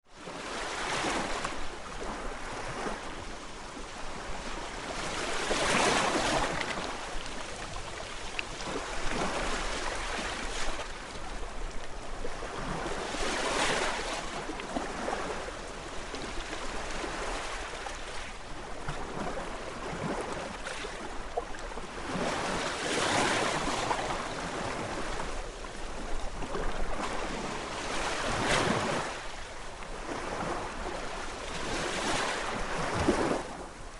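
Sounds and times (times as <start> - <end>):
gentle waves washing in: 0.1 - 33.9.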